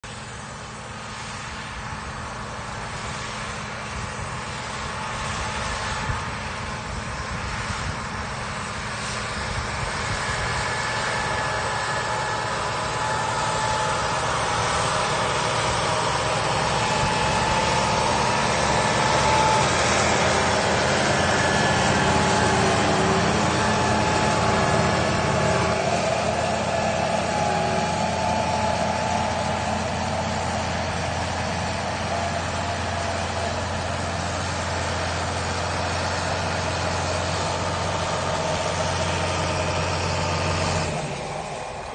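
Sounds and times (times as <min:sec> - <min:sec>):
tractor engines under load: 0:00.0 - 0:41.9
thin steady whine: 0:00.1 - 0:41.9.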